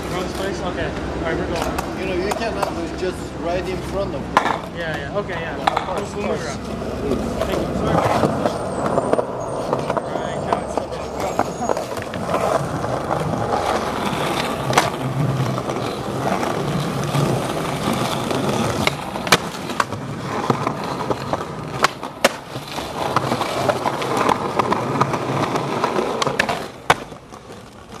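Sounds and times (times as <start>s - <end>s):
skateboard clacks: 0.0s - 28.0s
skateboard wheels rolling on concrete: 0.0s - 28.0s.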